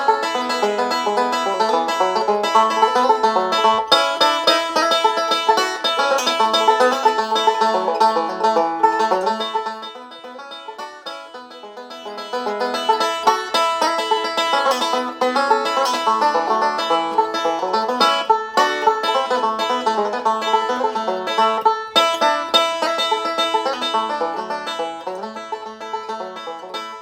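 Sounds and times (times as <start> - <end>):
fast banjo tune: 0.0 - 27.0.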